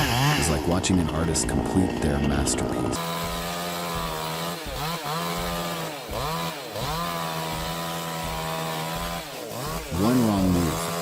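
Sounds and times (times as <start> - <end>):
chainsaw cutting: 0.0 - 11.0.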